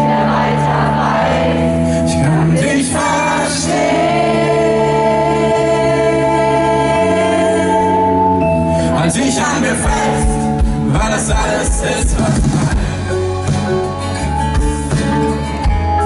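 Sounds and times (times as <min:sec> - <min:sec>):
people singing: 0:00.0 - 0:13.0
live pop band playing ballad: 0:00.0 - 0:16.0.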